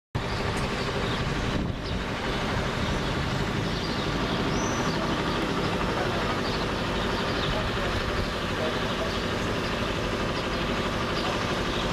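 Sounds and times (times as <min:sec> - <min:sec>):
steady rushing outdoor noise: 0:00.2 - 0:11.9.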